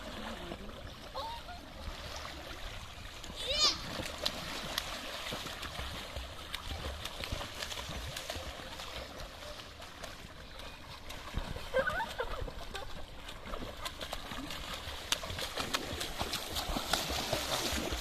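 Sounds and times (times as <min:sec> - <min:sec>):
pool water splashing: 0:00.0 - 0:18.0.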